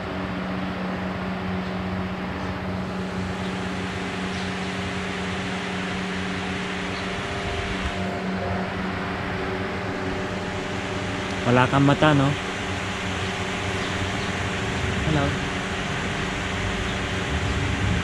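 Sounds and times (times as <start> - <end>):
electric fans whirring: 0.0 - 18.0.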